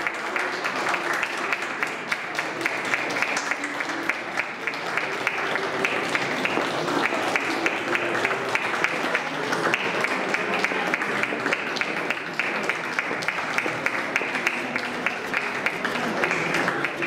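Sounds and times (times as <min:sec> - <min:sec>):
people clapping: 0:00.0 - 0:17.0.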